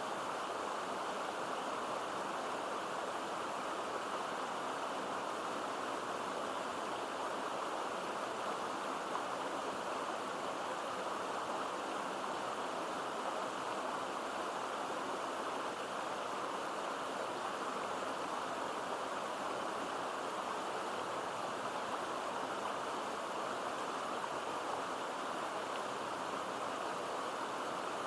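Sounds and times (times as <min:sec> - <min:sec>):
mountain stream babbling: 0:00.0 - 0:28.0.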